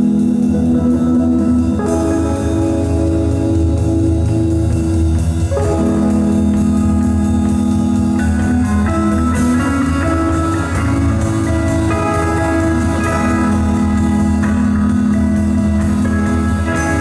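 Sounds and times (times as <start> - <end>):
organ-like keyboard chords: 0.0 - 17.0
rock band playing live: 0.0 - 17.0.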